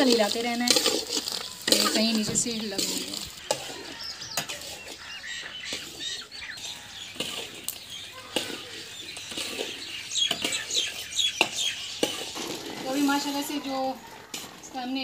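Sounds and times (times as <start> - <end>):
birds chirping: 0.0 - 15.0
metal spatula scraping metal pan: 0.0 - 15.0.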